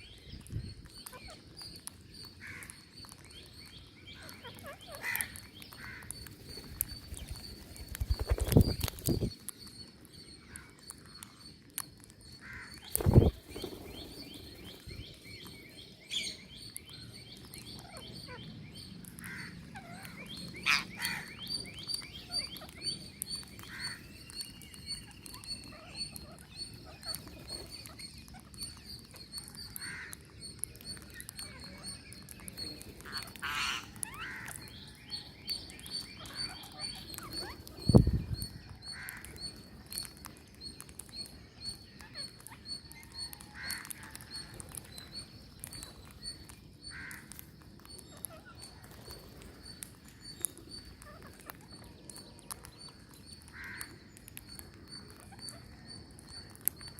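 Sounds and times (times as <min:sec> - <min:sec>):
birds chirping and calling: 0:00.0 - 0:56.9
rapid high-pitched chirping: 0:03.3 - 0:19.0, 0:19.8 - 0:56.9.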